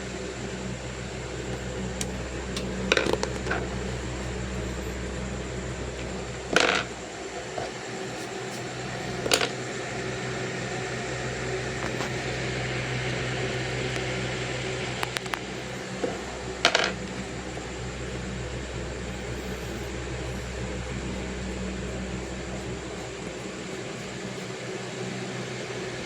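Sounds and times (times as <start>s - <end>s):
mechanical hum with hiss: 0.0s - 26.0s.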